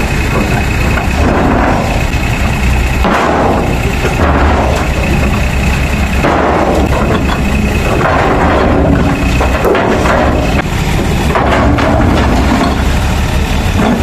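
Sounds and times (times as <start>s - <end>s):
diesel engine working hard: 0.0s - 14.0s
steel grinding and banging: 0.0s - 14.0s.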